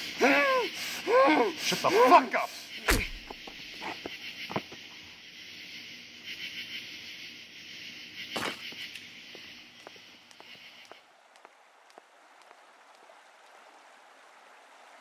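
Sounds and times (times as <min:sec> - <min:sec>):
night insects chirping: 0:00.0 - 0:12.6.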